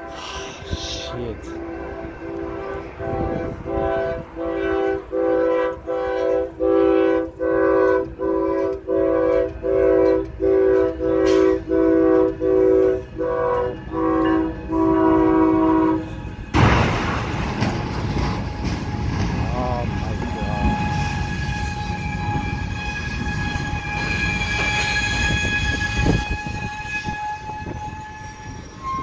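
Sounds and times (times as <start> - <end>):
locomotive air horn blasts: 0.0 - 16.7, 19.6 - 29.0.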